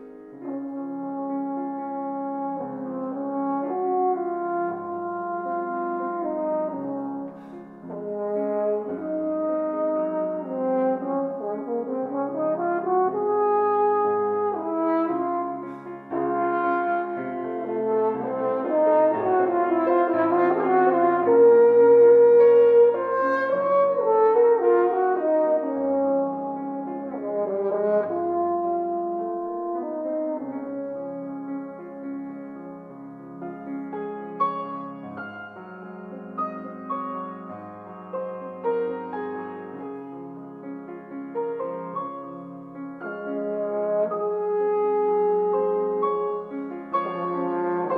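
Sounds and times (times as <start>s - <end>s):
french horn melody: 0.0s - 47.9s
grand piano: 0.0s - 47.9s.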